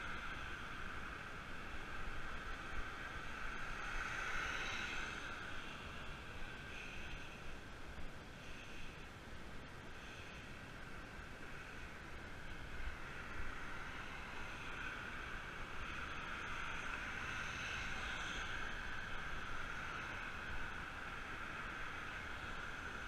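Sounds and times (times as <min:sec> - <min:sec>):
road noise from bicycle: 0:00.0 - 0:23.0
wind rush: 0:00.0 - 0:23.0.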